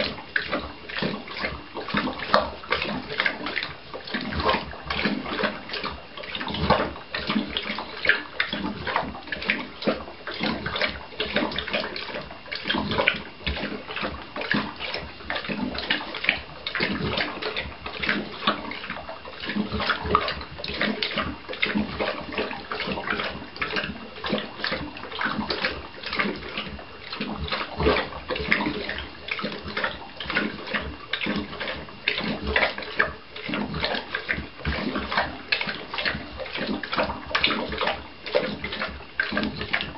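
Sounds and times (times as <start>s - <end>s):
dog lapping water: 0.0s - 39.9s.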